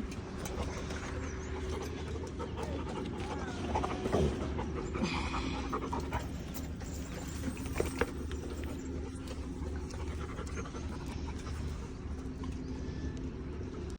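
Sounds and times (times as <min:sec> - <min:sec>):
dog panting: 0:00.0 - 0:12.7.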